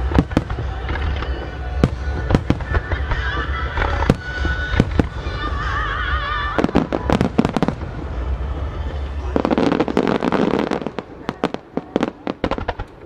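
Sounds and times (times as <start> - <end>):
fireworks bursting in sharp bangs: 0.0 - 13.0.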